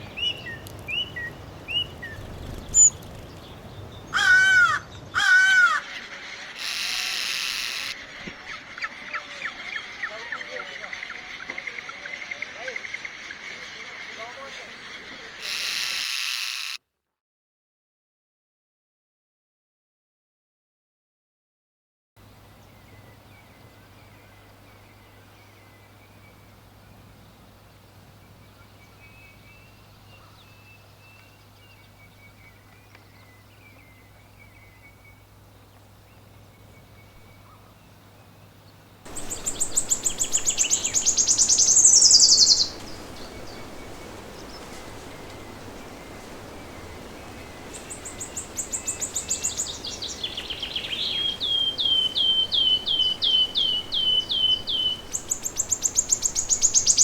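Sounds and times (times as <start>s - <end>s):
songbirds singing: 0.0s - 16.0s, 22.2s - 57.0s.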